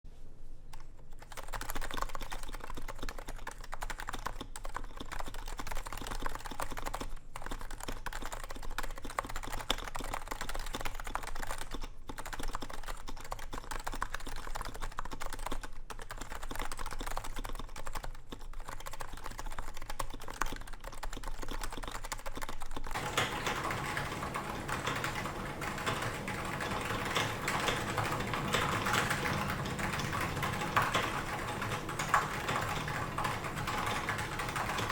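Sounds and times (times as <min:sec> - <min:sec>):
typing on a keyboard: 0:00.7 - 0:34.9.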